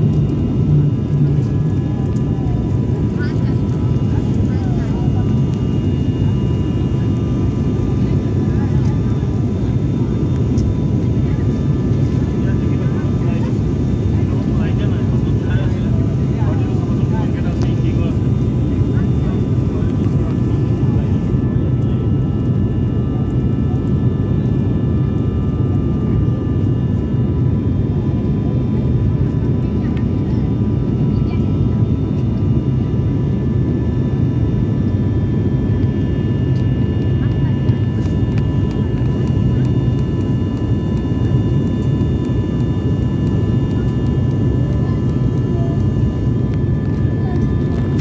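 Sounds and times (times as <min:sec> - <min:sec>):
airliner engine drone: 0:00.0 - 0:48.0.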